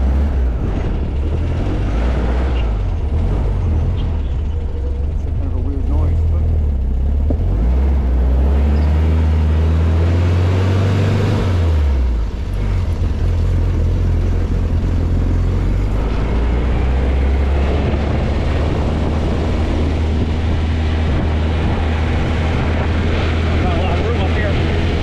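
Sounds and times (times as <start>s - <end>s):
buggy engine running: 0.0s - 25.0s.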